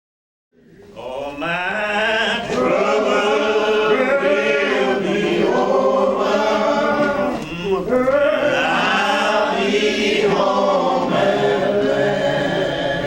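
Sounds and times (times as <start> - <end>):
group of voices singing: 0.6 - 13.0.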